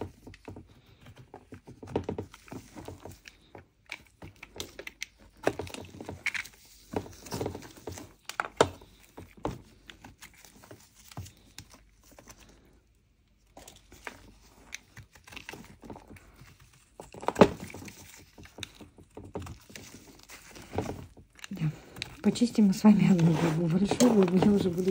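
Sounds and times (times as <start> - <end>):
clay flakes crackling: 0.0 - 24.9.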